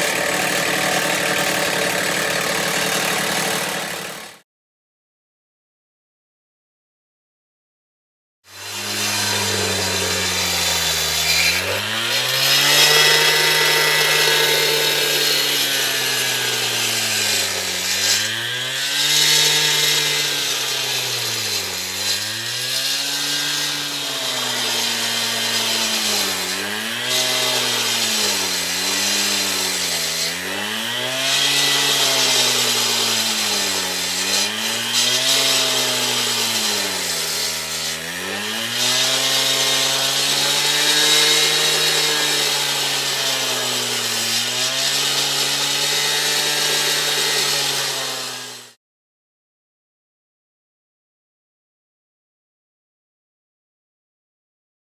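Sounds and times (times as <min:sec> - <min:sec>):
small engine power tool running: 0:00.0 - 0:04.4, 0:08.5 - 0:48.8.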